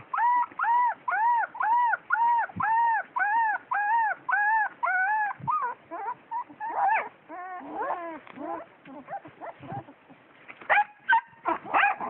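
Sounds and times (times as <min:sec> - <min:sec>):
puppy whining yelps: 0:00.0 - 0:12.0.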